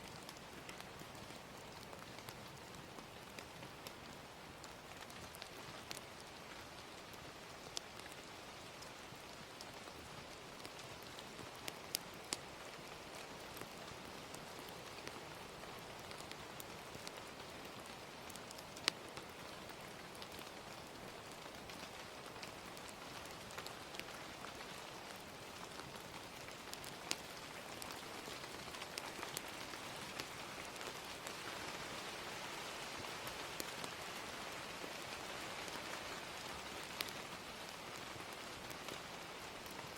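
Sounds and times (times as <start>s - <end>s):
fire crackling and popping: 0.0s - 39.9s
gentle rain: 0.0s - 39.9s.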